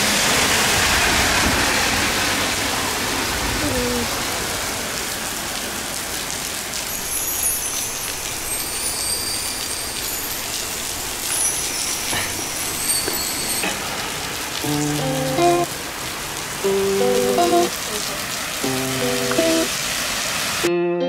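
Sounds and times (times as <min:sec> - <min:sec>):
heavy rain on street: 0:00.0 - 0:20.7.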